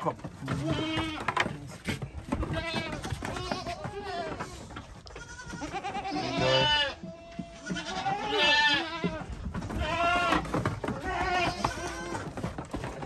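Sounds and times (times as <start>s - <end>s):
goats bleating: 0.0s - 13.0s.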